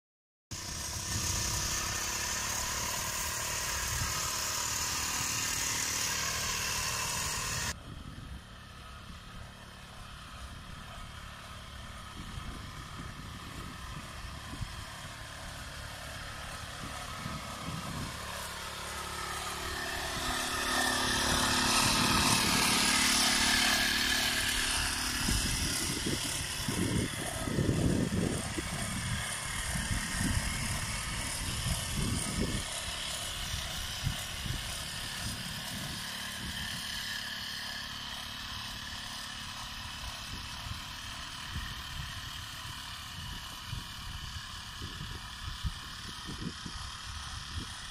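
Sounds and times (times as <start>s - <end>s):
small petrol engine running: 0.5s - 47.9s.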